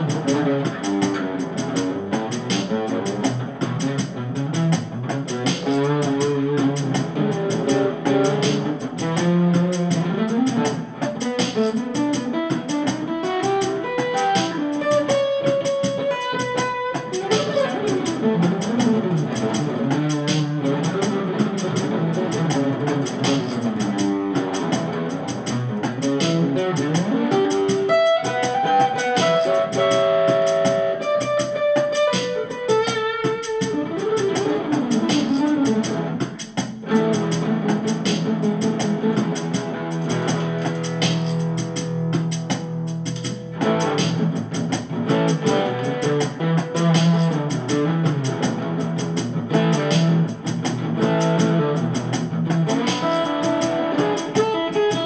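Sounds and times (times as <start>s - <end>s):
instrumental background music: 0.0s - 55.0s.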